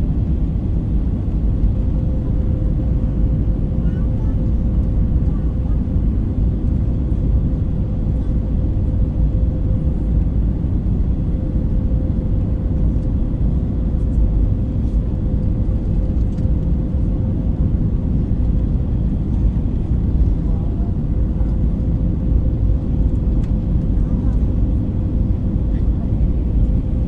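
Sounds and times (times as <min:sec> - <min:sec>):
low rumble of engines and airflow: 0:00.0 - 0:27.0.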